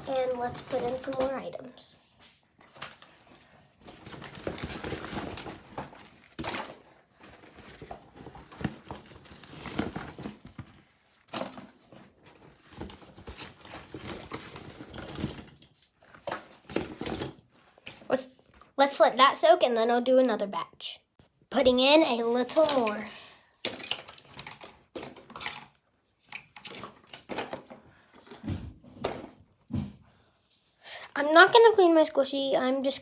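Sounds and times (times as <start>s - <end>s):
plastic toys rustling and clattering: 0.0s - 19.1s, 21.6s - 30.7s.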